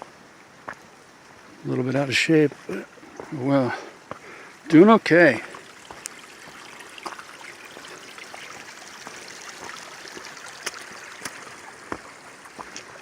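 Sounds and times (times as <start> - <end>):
running water rushing: 1.7 - 13.0.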